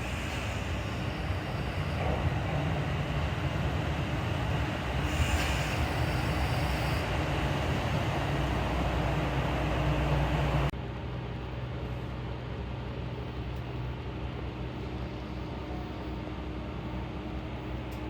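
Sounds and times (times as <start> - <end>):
train interior hum: 0.0 - 18.0
train running rumble: 0.0 - 18.0.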